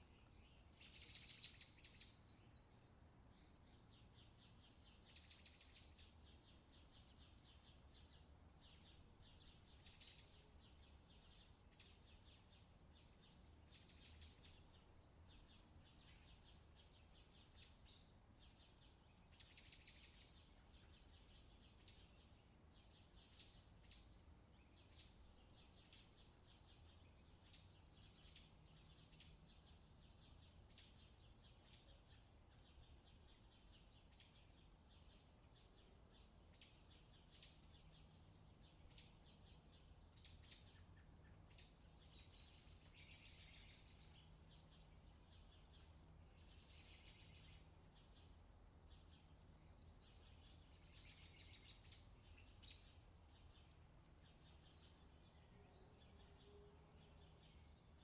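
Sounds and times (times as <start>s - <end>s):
faint low hum: 0.0s - 58.0s
small birds chirping: 0.0s - 58.0s.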